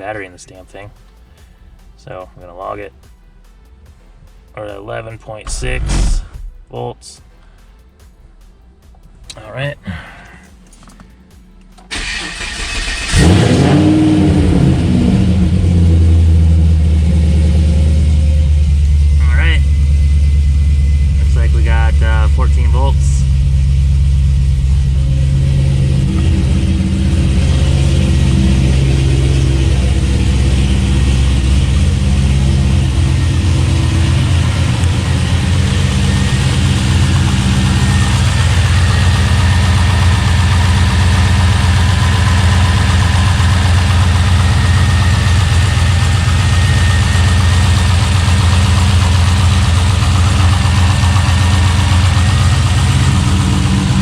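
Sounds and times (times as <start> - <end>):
car engine idling: 10.1 - 54.0.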